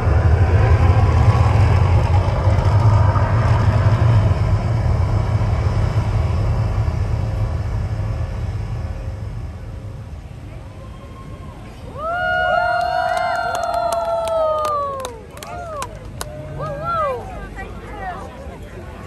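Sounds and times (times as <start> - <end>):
deep steady rumble: 0.0 - 19.0.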